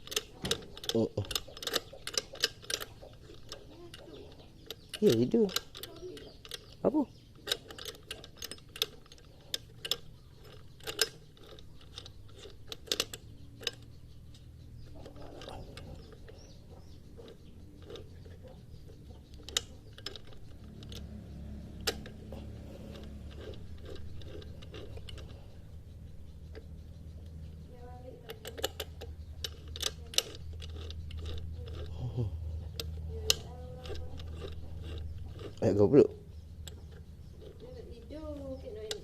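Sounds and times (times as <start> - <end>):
low steady hum: 0.0 - 39.0
sharp clicks and light knocks: 0.0 - 39.0.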